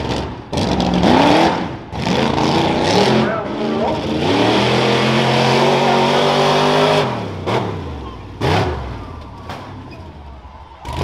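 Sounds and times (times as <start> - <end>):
race truck engine revving: 0.0 - 11.0.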